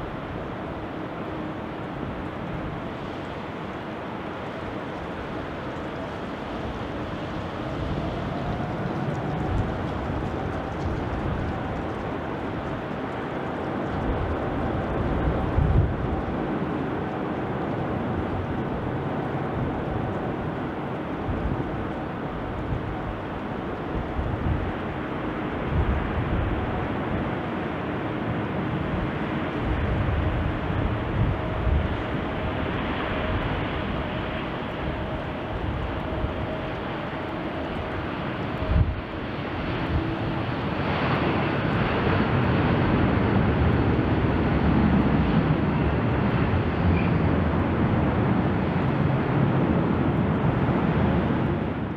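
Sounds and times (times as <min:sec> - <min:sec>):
jet engine rumble: 0:00.0 - 0:51.9.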